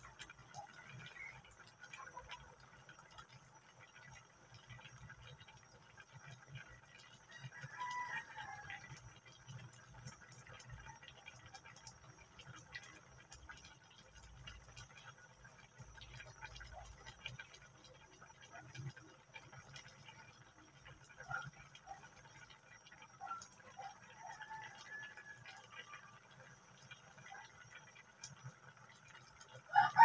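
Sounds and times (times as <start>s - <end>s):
sauce simmering with bubbling pops: 0.0s - 30.0s.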